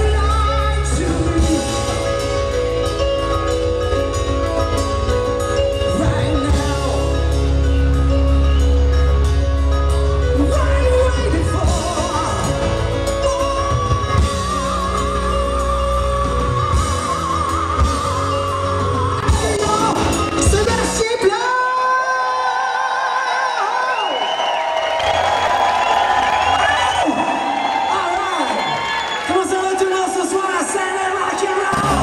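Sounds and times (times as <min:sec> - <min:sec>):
rock band playing live: 0:00.0 - 0:22.2, 0:25.0 - 0:32.0
crowd yelling and cheering: 0:00.0 - 0:32.0.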